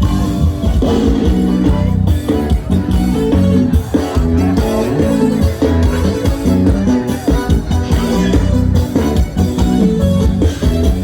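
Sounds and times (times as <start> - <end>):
band playing instrumental: 0.0 - 11.0
drum kit beat: 0.0 - 11.0
guitar: 0.0 - 11.0.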